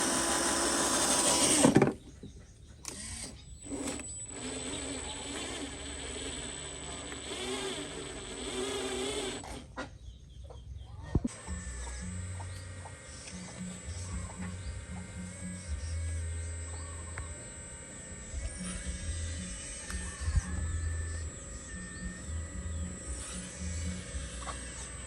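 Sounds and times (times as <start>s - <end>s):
small electric motors whirring: 0.0s - 2.1s, 2.8s - 9.8s, 11.2s - 25.0s.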